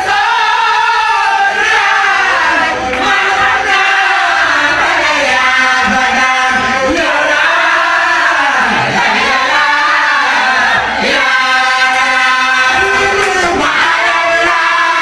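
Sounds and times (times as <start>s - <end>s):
chorus singing along: 0.0s - 15.0s
man singing into a microphone: 2.3s - 15.0s.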